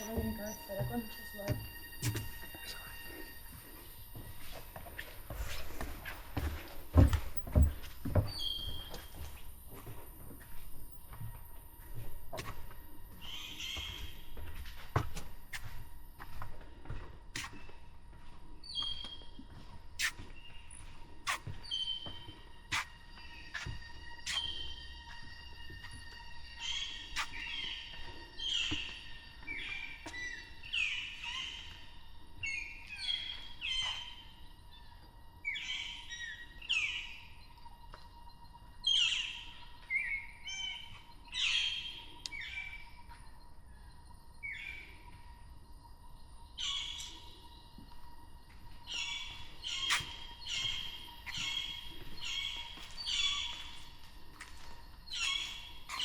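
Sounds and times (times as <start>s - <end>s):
jungle birds calling: 0.0s - 4.4s, 5.2s - 16.4s, 18.6s - 45.2s, 46.1s - 56.0s.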